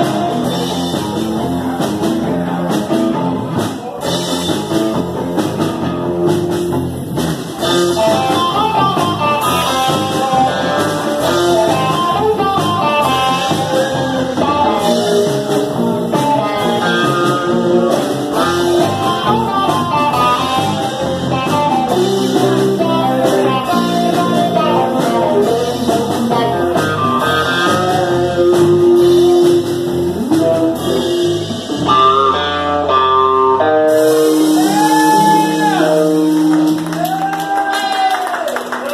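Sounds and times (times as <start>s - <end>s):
blues-rock band playing: 0.0s - 38.9s
electric guitar lead: 0.0s - 38.9s.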